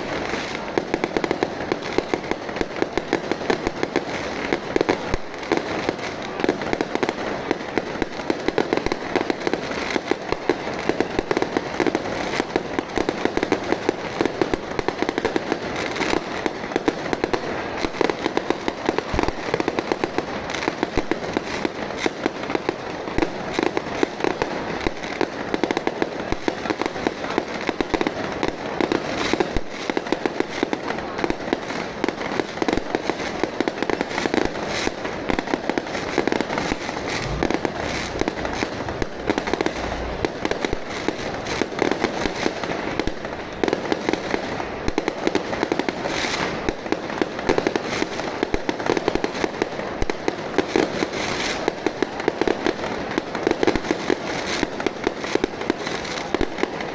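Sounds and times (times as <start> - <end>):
fireworks and firecrackers banging: 0.0 - 56.9.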